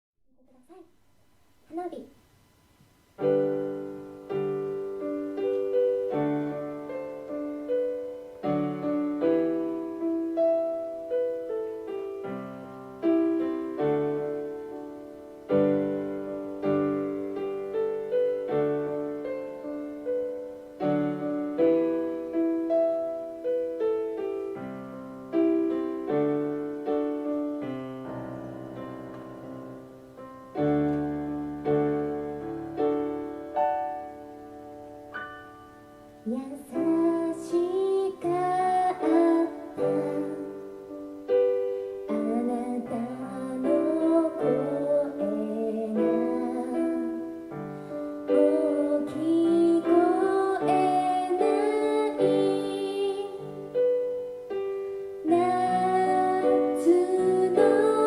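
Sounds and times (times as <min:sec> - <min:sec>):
slow piano playing: 0:02.4 - 0:58.0.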